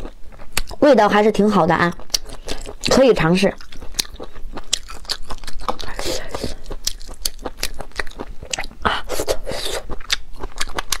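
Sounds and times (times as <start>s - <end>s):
wet chewing: 0.0s - 11.0s.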